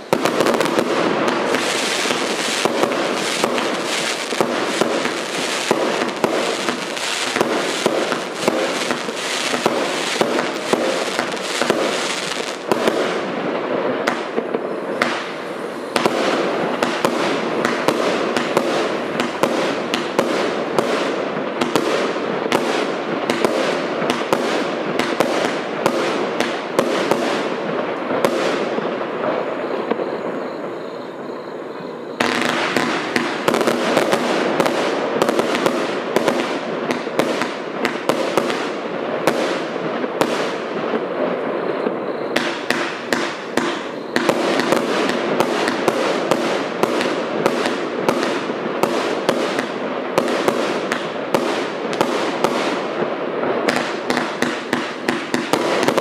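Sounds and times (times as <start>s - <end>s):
fireworks shots firing: 0.0s - 30.4s, 32.2s - 56.0s
fireworks hiss and crackle: 0.0s - 56.0s.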